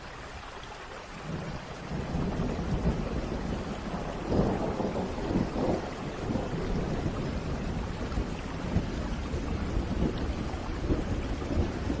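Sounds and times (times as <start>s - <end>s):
steady rain: 0.0s - 12.0s
low rumble of thunder: 1.2s - 12.0s.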